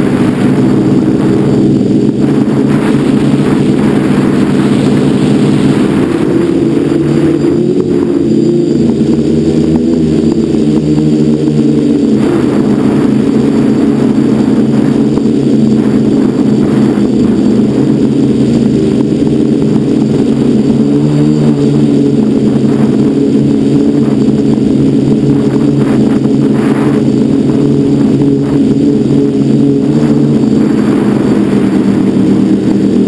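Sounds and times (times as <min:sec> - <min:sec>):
drone motors buzzing: 0:00.0 - 0:33.0.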